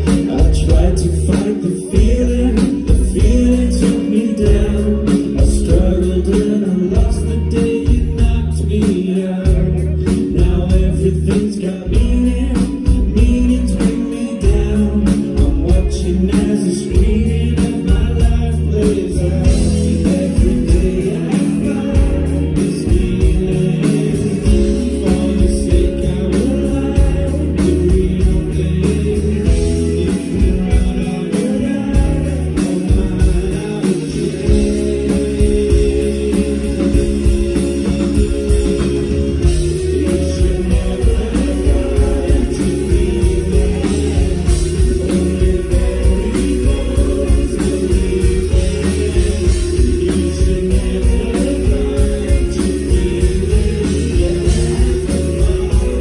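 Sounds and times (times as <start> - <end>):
drum kit beat: 0.0 - 56.0
electric guitars: 0.0 - 56.0
person singing: 0.0 - 56.0.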